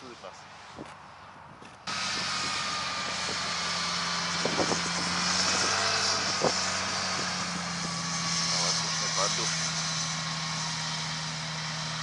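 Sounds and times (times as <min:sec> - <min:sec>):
hovercraft engine droning: 0:00.0 - 0:12.0.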